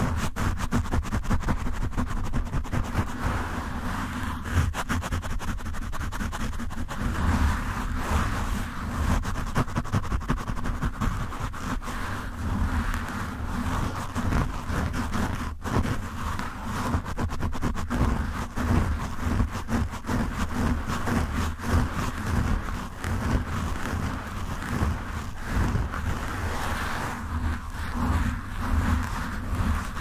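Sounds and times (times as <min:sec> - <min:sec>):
fingers scratching microphone windscreen: 0:00.0 - 0:30.0.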